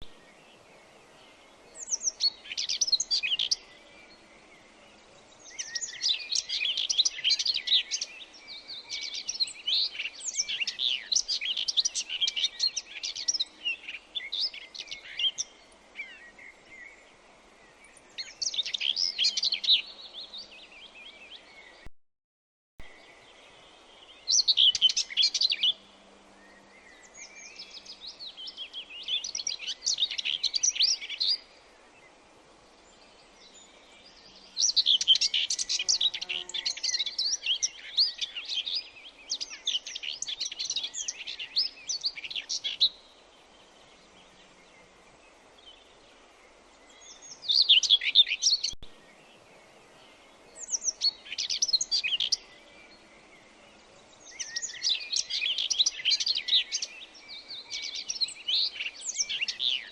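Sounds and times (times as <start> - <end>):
faint background hiss: 0.0 - 21.9, 22.8 - 59.9
songbirds chirping: 0.0 - 21.9, 22.8 - 59.9.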